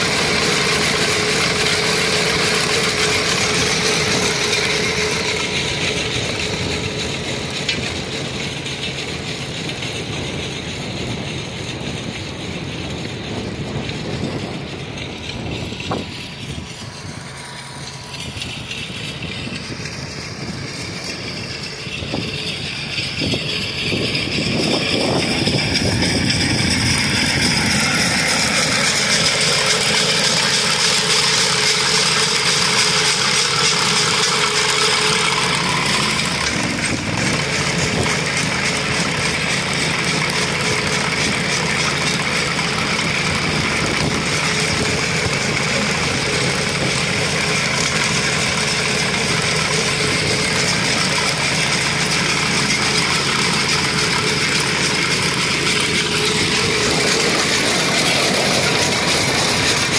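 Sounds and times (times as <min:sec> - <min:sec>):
chain churning through gravel: 0:00.0 - 0:59.9
trencher engine running: 0:00.0 - 0:59.9.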